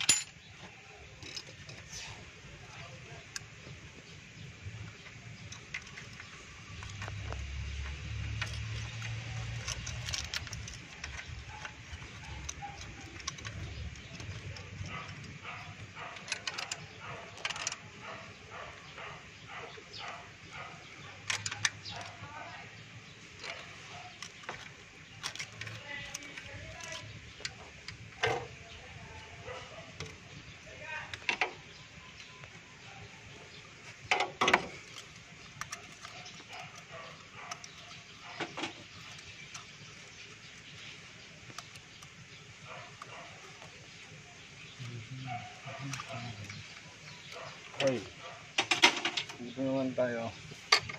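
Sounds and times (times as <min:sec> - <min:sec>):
metal tools clinking: 0:00.0 - 0:03.5, 0:05.0 - 0:22.4, 0:23.2 - 0:32.5, 0:34.0 - 0:40.8, 0:44.8 - 0:50.9.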